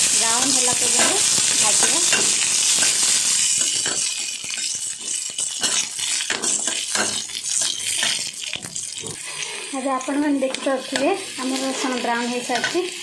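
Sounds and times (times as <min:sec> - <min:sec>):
garlic sizzling in hot oil: 0:00.0 - 0:13.0
steel spatula scraping a pan: 0:00.4 - 0:09.6, 0:10.4 - 0:13.0.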